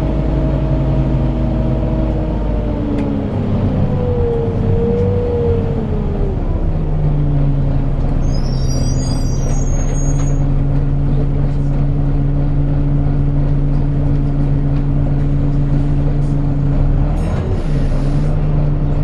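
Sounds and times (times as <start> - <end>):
bus engine idling: 0.0 - 19.0.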